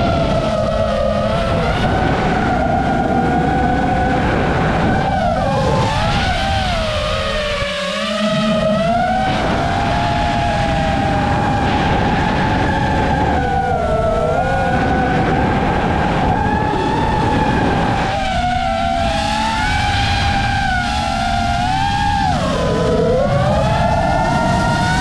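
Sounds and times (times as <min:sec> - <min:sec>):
low rushing noise: 0:00.0 - 0:25.0
quadcopter propellers whining: 0:00.0 - 0:25.0.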